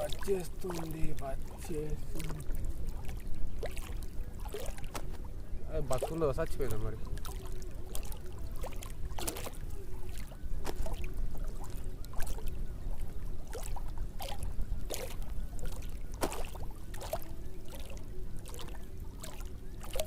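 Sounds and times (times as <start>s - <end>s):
steady low rumble: 0.0s - 20.0s
water splashing and sloshing: 0.0s - 20.0s.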